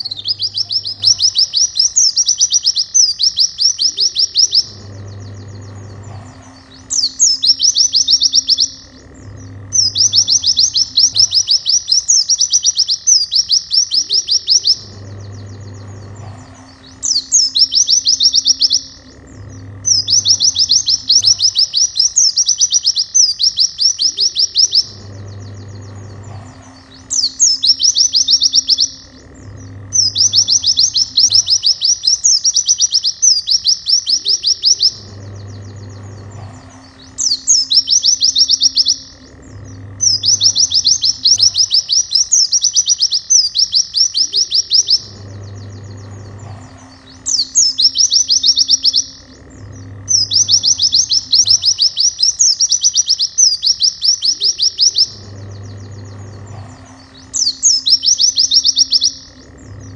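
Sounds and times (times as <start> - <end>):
bird singing high trills: 0.0 - 59.9.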